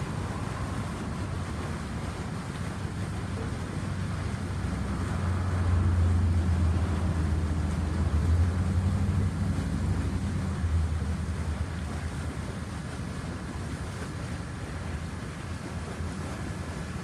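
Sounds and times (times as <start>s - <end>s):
water rushing from manhole: 0.0s - 17.0s.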